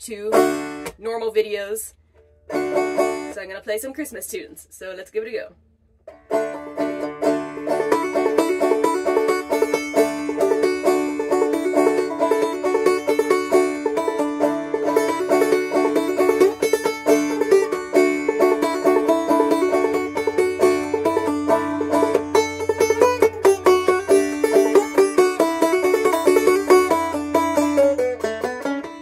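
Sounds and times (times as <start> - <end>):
solo banjo playing: 0.0 - 1.2, 2.4 - 3.6, 6.0 - 29.0.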